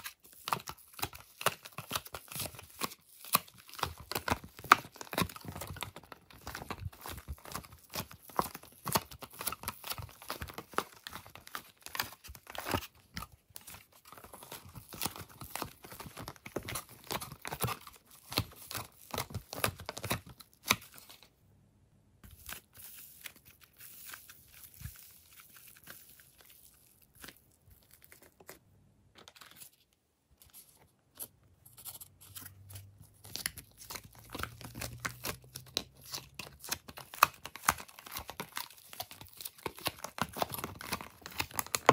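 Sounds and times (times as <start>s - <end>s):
clay crackling and crinkling: 0.0s - 21.4s, 22.2s - 41.9s.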